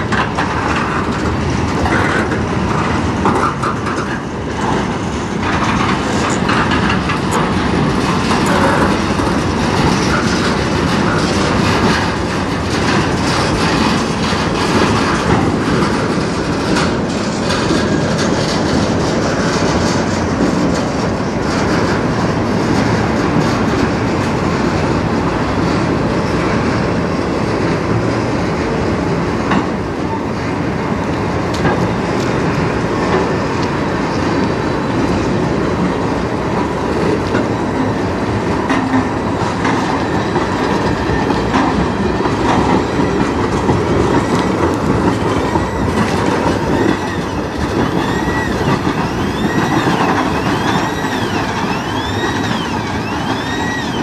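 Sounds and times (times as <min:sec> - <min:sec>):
steel wheels rumbling on rails: 0:00.0 - 0:54.0
wheels clacking over rail joints: 0:00.0 - 0:54.0.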